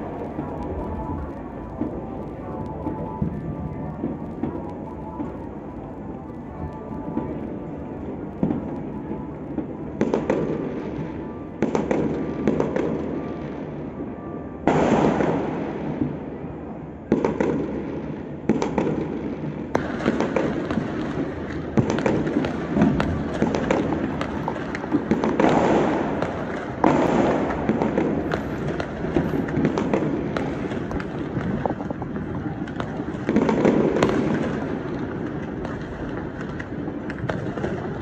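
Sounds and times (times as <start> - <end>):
firework booms: 0.0 - 13.1, 18.5 - 38.0
firecrackers banging and crackling: 0.0 - 13.8, 14.7 - 16.2, 17.1 - 38.0.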